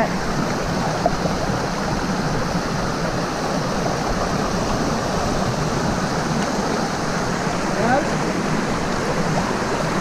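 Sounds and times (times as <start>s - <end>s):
creek flowing over stones: 0.0s - 10.0s.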